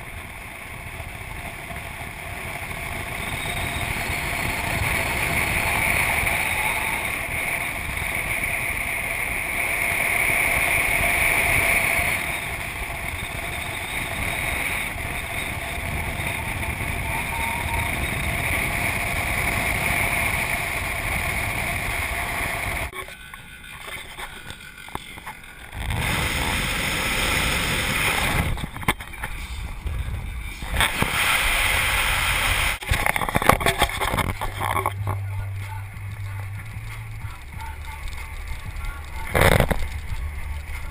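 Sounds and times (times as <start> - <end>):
wind rushing over microphone: 0.0 - 23.0, 25.7 - 37.6
engine and tyre rumble: 0.0 - 40.9.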